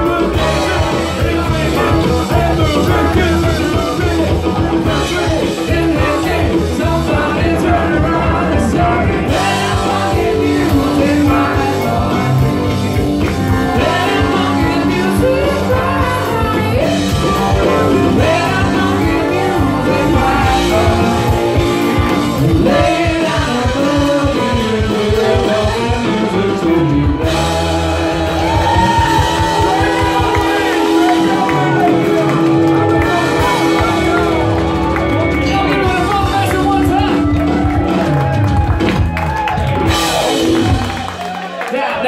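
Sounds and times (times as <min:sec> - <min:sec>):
person singing: 0:00.0 - 0:38.0
electric bass: 0:00.0 - 0:41.5
drums: 0:00.0 - 0:42.0
electric guitar: 0:00.0 - 0:42.0.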